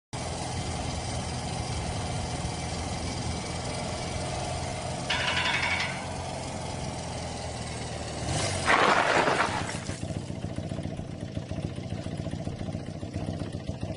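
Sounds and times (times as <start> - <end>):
motorcycle engine idling: 0.2 - 8.4, 9.4 - 13.9.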